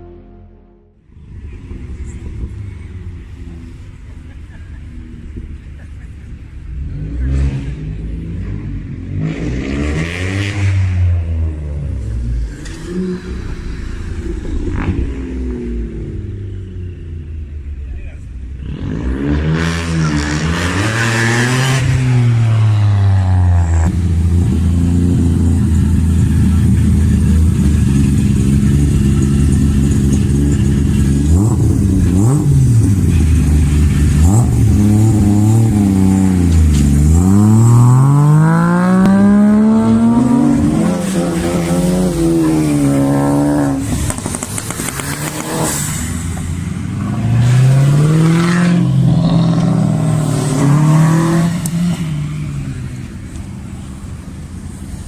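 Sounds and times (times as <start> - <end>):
loud car engines revving: 1.1 - 55.0.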